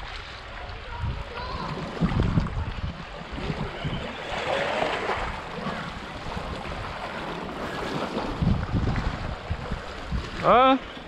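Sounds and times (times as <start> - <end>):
waves and rushing water: 0.0 - 11.0
wind rumbling on microphone: 0.0 - 11.0.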